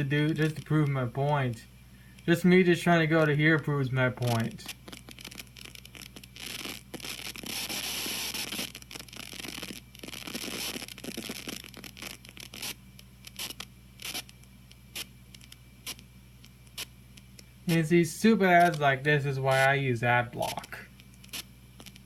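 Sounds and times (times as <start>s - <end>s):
crackling interference hiss: 0.0s - 22.0s
low steady hum: 0.0s - 22.0s.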